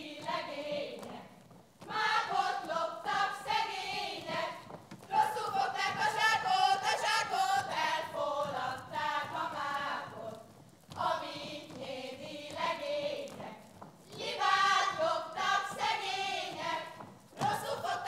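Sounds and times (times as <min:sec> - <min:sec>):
women singing folk song: 0:00.0 - 0:18.0.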